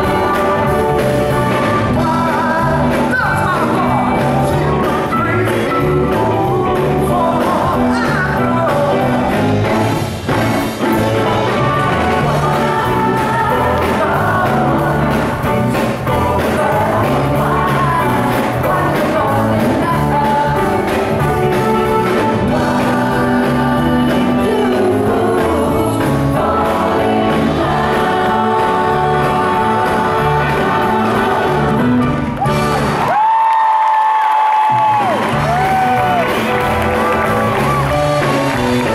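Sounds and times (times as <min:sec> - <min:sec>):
male vocal group singing in harmony: 0:00.0 - 0:10.0, 0:11.0 - 0:32.2
keyboard: 0:00.0 - 0:33.2, 0:34.4 - 0:38.9
electric guitar: 0:00.0 - 0:38.9.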